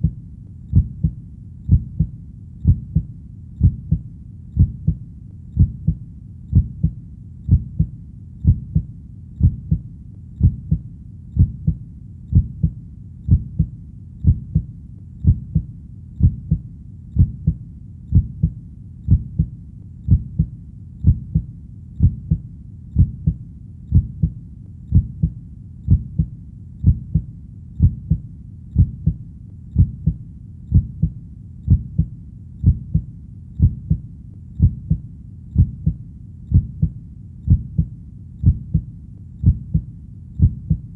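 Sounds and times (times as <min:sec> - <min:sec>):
heartbeat double thump: 0:00.0 - 0:04.0, 0:04.6 - 0:05.0, 0:05.6 - 0:09.8, 0:10.4 - 0:10.8, 0:11.4 - 0:16.6, 0:17.2 - 0:19.5, 0:20.1 - 0:22.4, 0:23.0 - 0:28.2, 0:28.8 - 0:29.2, 0:29.8 - 0:34.0, 0:34.6 - 0:35.0, 0:35.6 - 0:40.9
faint low hum: 0:00.0 - 0:40.9.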